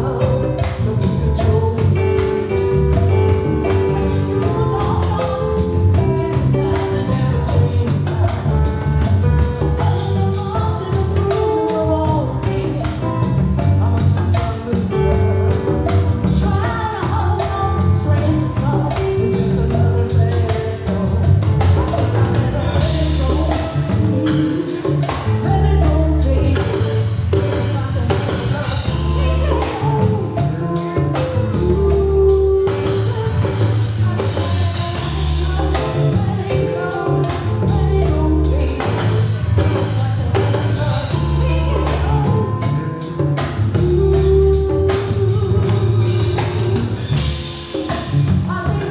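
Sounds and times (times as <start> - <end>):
live band with singer: 0.0 - 48.9
percussion steady beat: 0.0 - 48.9.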